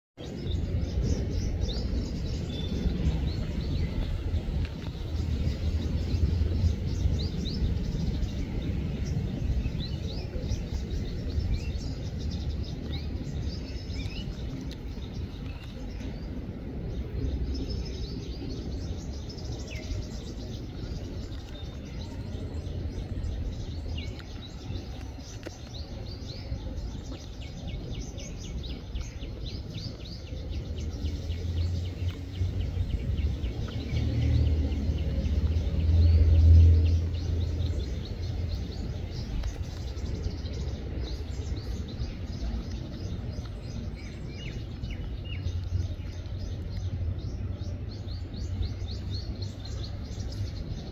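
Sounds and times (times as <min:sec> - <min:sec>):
low rumble: 0:00.2 - 0:50.9
small birds chirping: 0:00.2 - 0:50.9.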